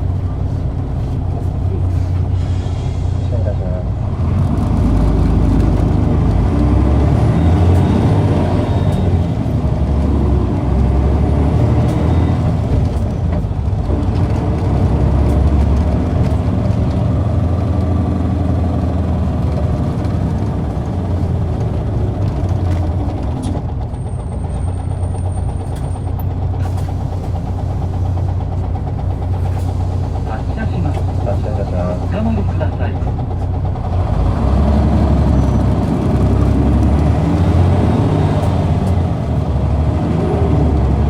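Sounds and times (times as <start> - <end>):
bus diesel engine droning: 0.0 - 41.0.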